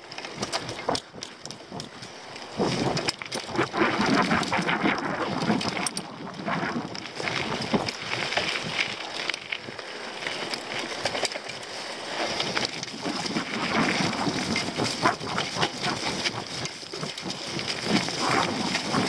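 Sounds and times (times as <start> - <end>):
bike rattling and knocking: 0.0 - 19.0
tyres crunching over dirt: 0.0 - 19.0
wind on microphone: 0.4 - 9.0, 12.4 - 19.0.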